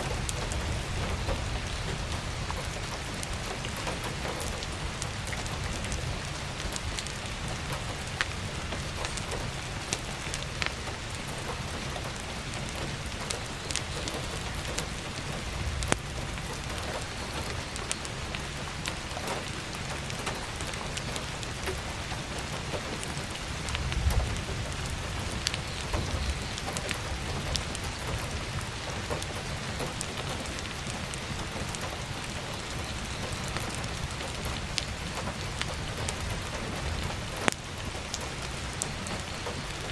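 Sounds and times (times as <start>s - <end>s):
heavy rain on skylight: 0.0s - 39.9s
wood fire crackling: 0.0s - 39.9s.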